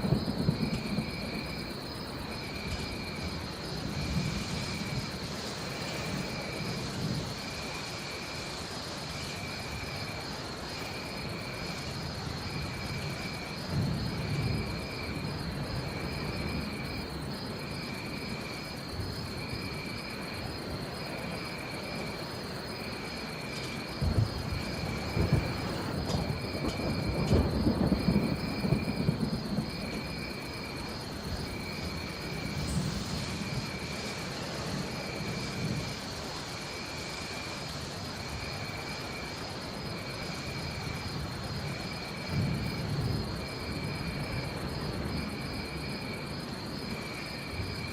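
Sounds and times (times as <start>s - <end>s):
low thunder rumble: 0.0s - 47.9s
steady rain: 0.0s - 47.9s.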